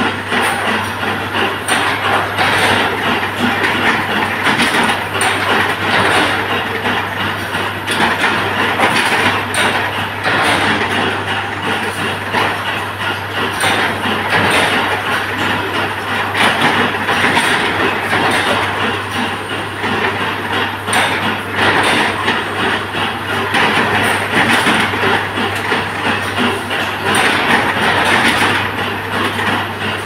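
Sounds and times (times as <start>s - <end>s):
uneven clatter of machinery: 0.0s - 30.0s.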